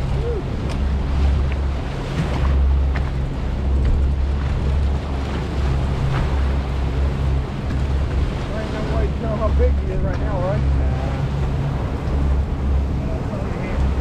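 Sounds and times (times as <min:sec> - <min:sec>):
outboard motors droning: 0:00.0 - 0:14.0
wake water rushing: 0:00.0 - 0:14.0
wind buffeting microphone: 0:00.0 - 0:14.0.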